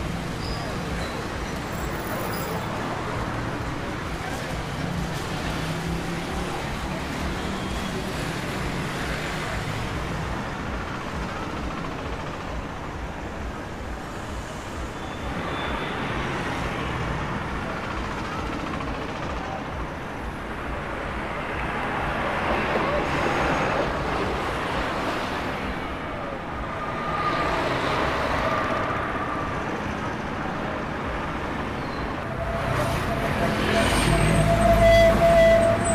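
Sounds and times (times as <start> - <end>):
passing traffic hum: 0.0 - 35.9.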